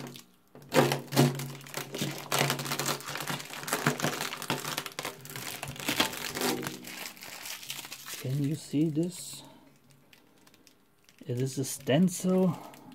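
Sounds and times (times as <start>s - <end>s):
plastic film crinkling: 0.0s - 12.9s.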